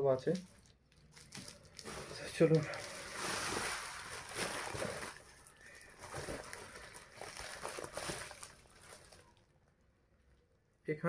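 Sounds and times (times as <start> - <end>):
parcel rustling: 0.3 - 9.4.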